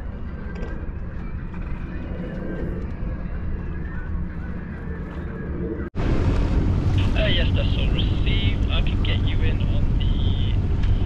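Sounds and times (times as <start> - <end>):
boat engine droning: 0.0 - 11.0
wind: 0.0 - 11.0.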